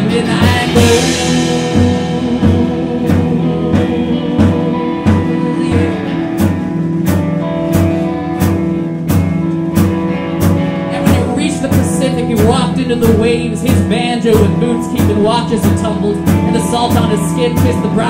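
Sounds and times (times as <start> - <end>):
percussion hits: 0.0 - 17.2
folk-rock band playing: 0.0 - 18.0.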